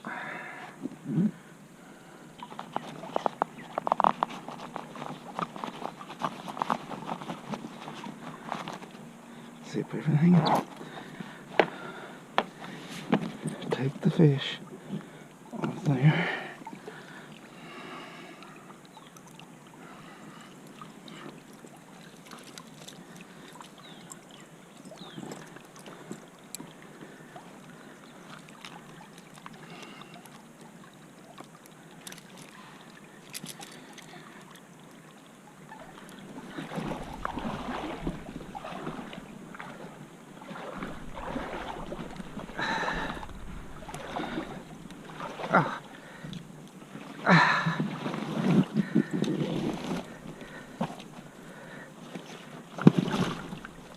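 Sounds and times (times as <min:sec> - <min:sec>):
water sloshing and splashing: 0:01.8 - 0:53.9.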